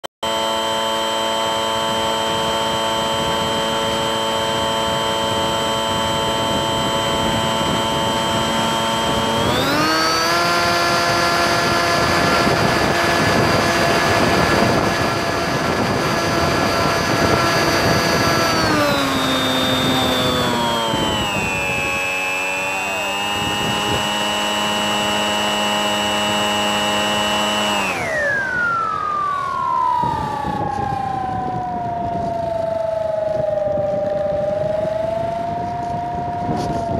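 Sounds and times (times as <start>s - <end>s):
model plane motor whining: 0.2s - 36.9s
wind rushing over microphone: 1.9s - 36.9s.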